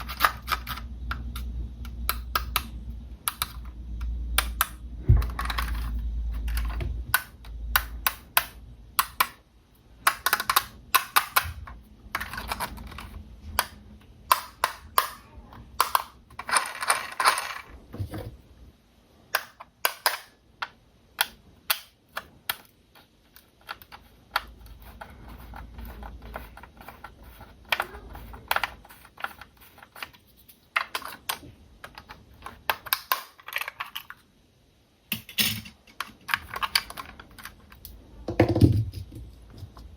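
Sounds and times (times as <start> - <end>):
plastic parts clicking and tapping: 0.0 - 9.4, 10.0 - 18.4, 19.3 - 34.2, 35.1 - 39.9.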